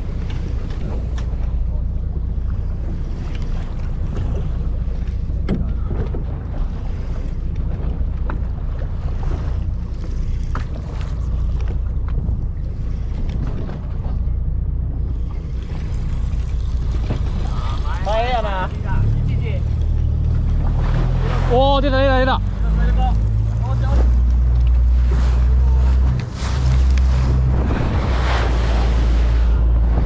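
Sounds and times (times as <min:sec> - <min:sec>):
boat engine idling: 0:00.0 - 0:30.0
sea noise: 0:00.0 - 0:30.0
wind: 0:00.0 - 0:30.0.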